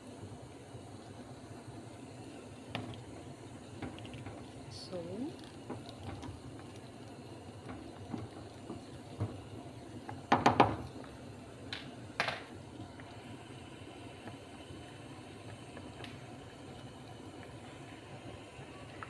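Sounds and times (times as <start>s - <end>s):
stew bubbling in a metal pot: 0.0s - 19.0s.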